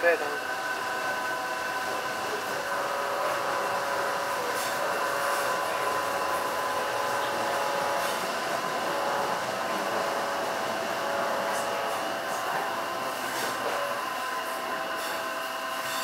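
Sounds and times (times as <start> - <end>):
train rolling noise: 0.0 - 16.0.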